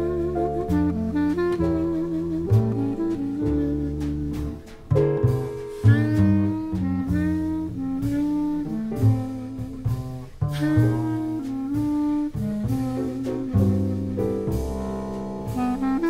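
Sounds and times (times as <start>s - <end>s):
clarinet solo: 0.0s - 16.0s
double bass: 0.0s - 16.0s
drums: 0.0s - 16.0s.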